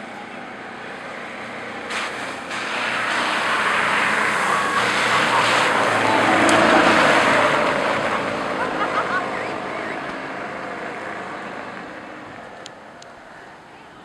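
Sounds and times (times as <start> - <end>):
tyres hissing through water spray: 0.8 - 12.2.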